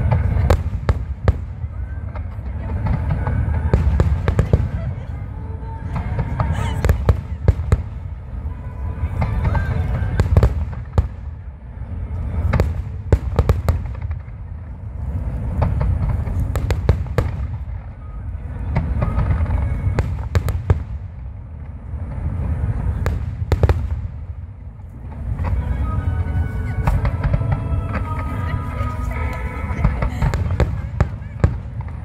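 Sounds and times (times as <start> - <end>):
fireworks sharp cracks: 0.0 - 5.0, 9.1 - 11.5, 12.3 - 18.0, 18.7 - 26.1, 26.7 - 32.0.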